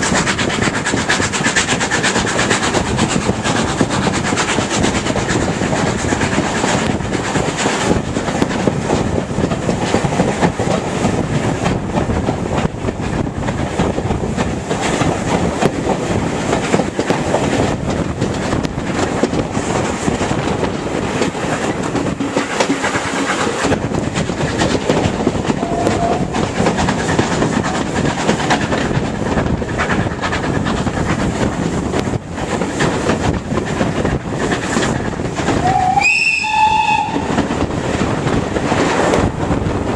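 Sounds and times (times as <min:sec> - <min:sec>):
train rumble: 0:00.0 - 0:39.9
wheels clattering over rail joints: 0:00.0 - 0:39.9.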